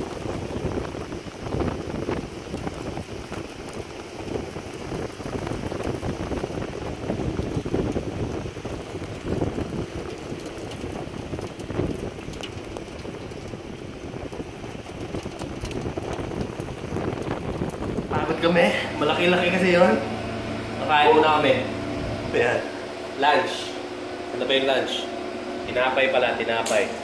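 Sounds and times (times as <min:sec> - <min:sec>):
wind gusting on microphone: 0:00.0 - 0:23.2
rain falling: 0:00.0 - 0:27.0.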